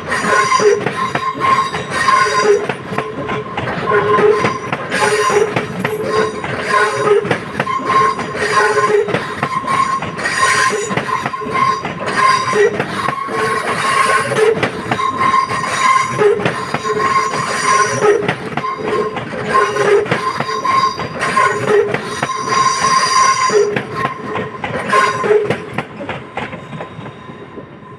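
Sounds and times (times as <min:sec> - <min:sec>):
train wheels clicking over switches: 0:00.0 - 0:27.1
train wheels squealing: 0:00.0 - 0:27.9.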